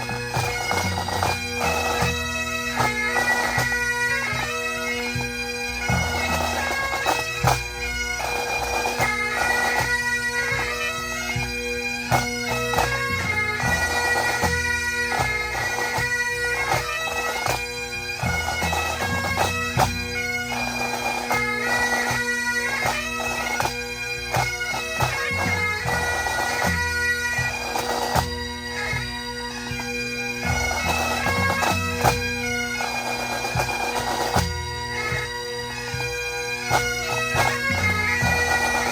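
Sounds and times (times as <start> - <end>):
bagpipes playing a tune: 0.0 - 38.9.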